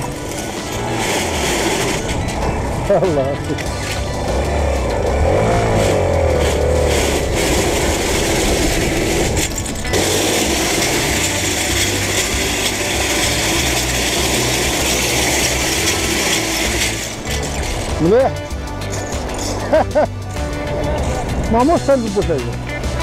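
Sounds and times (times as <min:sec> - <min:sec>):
tyres rolling over loose shells: 0:00.0 - 0:19.8
small motorcycle engine running: 0:00.0 - 0:23.0.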